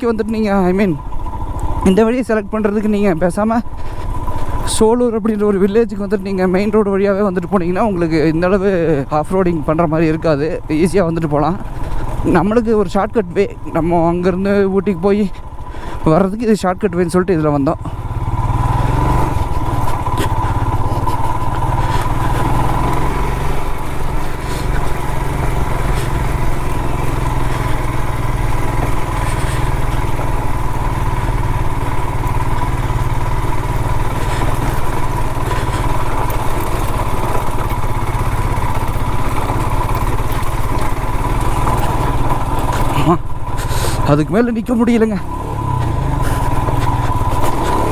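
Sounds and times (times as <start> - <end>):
motorcycle engine running under load: 0.0 - 47.9.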